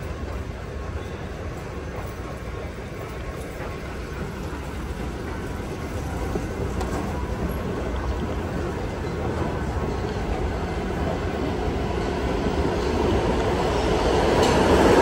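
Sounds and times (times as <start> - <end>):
subway station rumble and hiss: 0.0 - 15.0.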